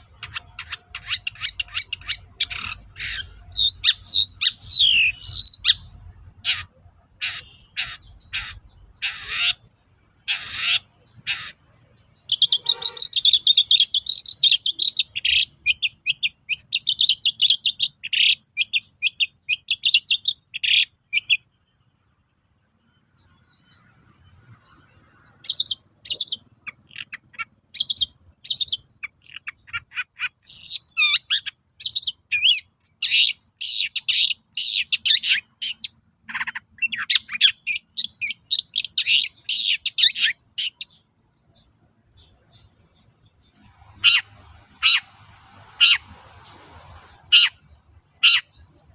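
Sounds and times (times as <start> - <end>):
bird calling and chattering: 0.0 - 21.6, 23.1 - 48.9.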